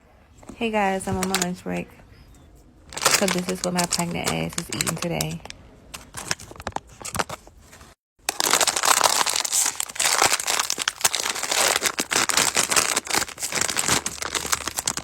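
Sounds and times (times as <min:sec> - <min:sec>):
food packaging crinkling: 0:01.2 - 0:01.6, 0:02.9 - 0:15.0.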